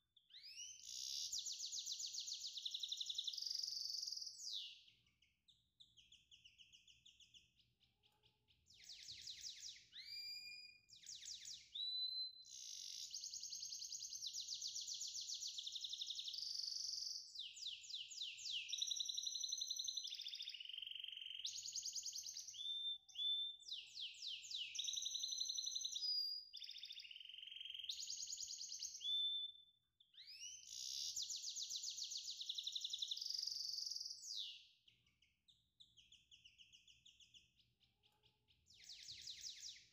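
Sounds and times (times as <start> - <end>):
songbird trilling and warbling: 0.2 - 39.9.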